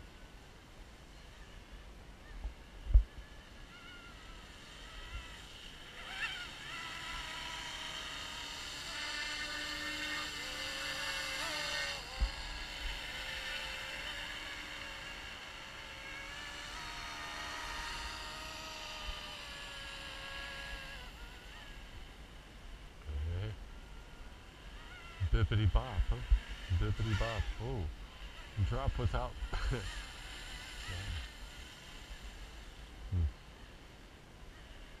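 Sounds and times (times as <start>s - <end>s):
toy helicopter motor whine: 1.2s - 22.1s, 23.1s - 33.8s.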